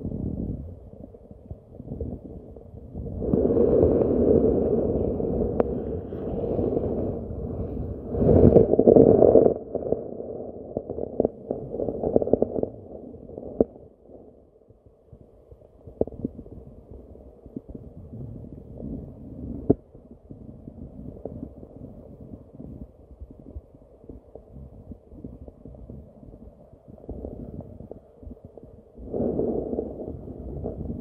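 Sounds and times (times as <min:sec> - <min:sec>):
muffled underwater rumbling: 0:00.0 - 0:31.0.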